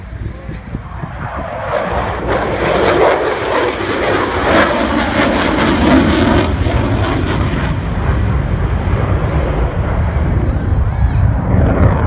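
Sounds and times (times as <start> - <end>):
jet engines roaring past: 0.0 - 12.0.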